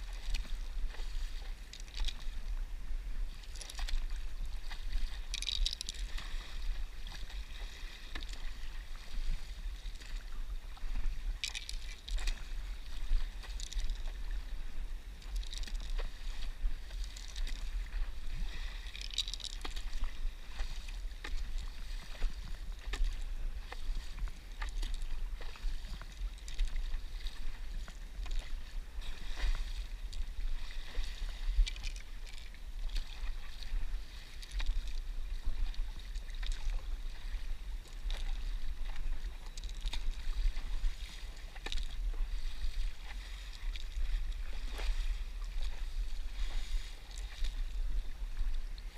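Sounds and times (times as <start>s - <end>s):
paddle strokes splashing: 0.0s - 48.9s
steady low rumble: 0.0s - 48.9s
water lapping against a board: 0.0s - 48.9s.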